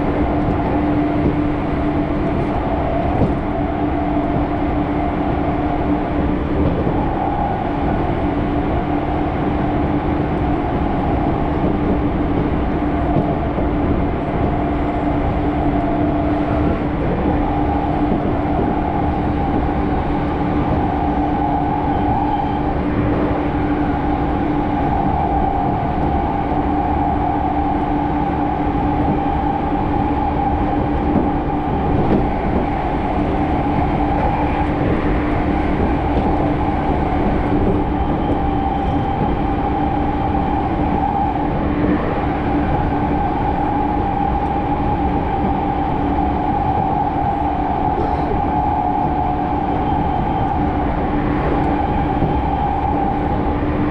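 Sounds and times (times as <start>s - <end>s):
train running rumble: 0.0s - 53.9s.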